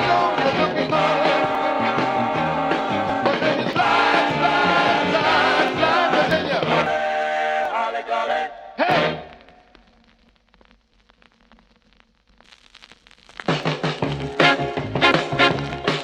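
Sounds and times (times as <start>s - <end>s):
rock and roll record playing: 0.0s - 16.0s.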